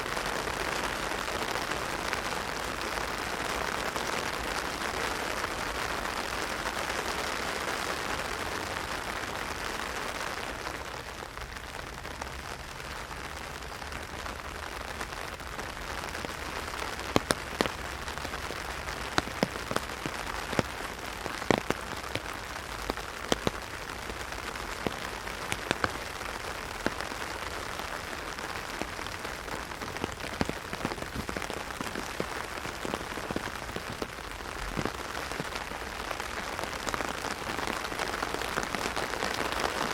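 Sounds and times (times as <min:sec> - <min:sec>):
heavy rain on an umbrella: 0:00.0 - 0:39.9.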